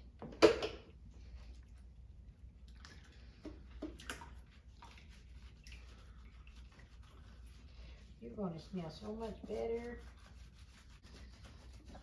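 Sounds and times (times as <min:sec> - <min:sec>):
wet shampoo lathering: 0:01.6 - 0:12.0.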